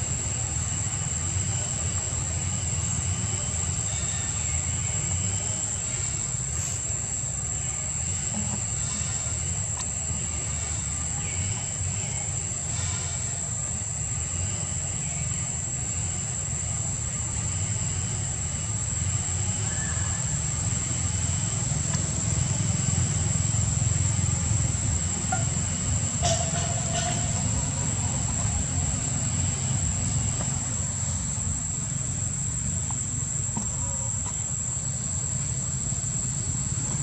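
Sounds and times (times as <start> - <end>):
constant high-pitched whine: 0.0 - 37.0
low outdoor rumble: 0.0 - 37.0.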